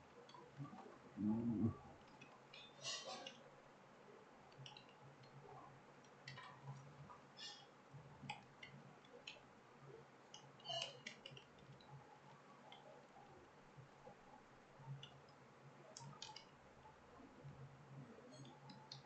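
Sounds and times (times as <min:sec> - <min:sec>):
faint keyboard typing: 0:00.0 - 0:19.0.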